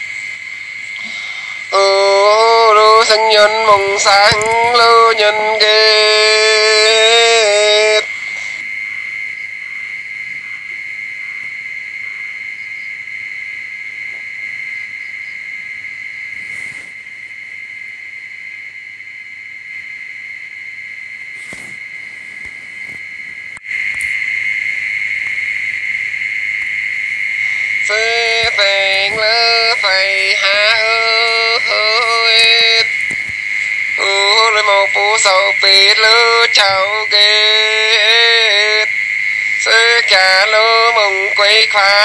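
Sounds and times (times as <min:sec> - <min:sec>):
high-pitched insect trill: 0:00.0 - 0:42.0.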